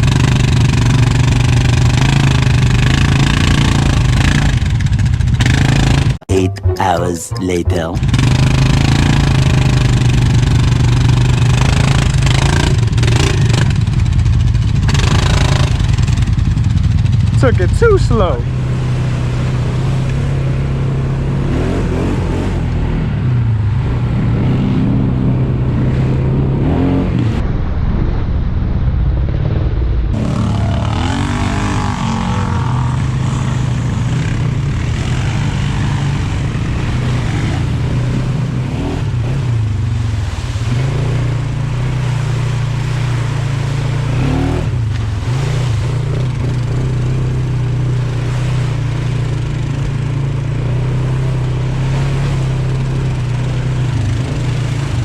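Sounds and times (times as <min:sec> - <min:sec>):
atv engine revving: 0:00.0 - 0:06.3, 0:08.0 - 0:27.4, 0:30.2 - 0:55.0.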